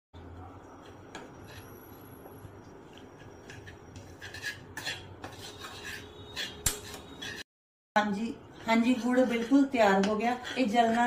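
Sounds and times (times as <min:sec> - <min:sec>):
spoon scraping in pan: 0:00.7 - 0:07.4, 0:08.5 - 0:11.0.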